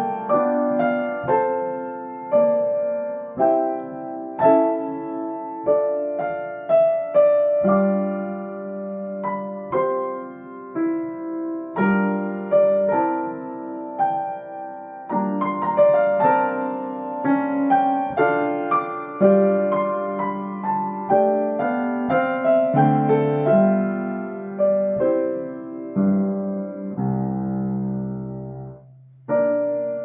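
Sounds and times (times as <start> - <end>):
piano melody: 0.0 - 30.0.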